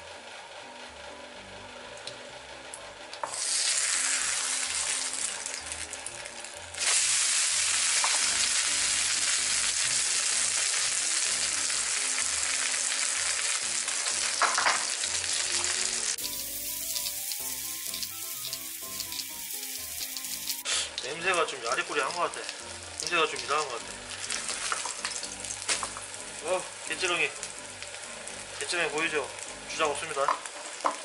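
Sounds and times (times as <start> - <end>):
pancake sizzling in oil: 3.2 - 31.0.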